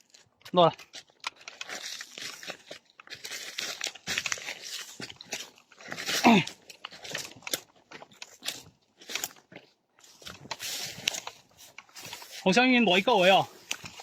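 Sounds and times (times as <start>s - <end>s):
footsteps crunching through dry leaves: 0.0s - 14.0s
twigs snapping: 0.1s - 12.5s.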